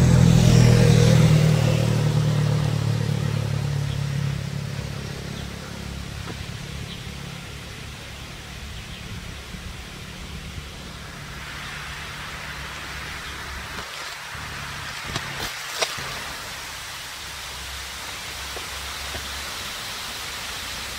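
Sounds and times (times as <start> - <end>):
low rumble under a hiss: 0.0 - 20.9.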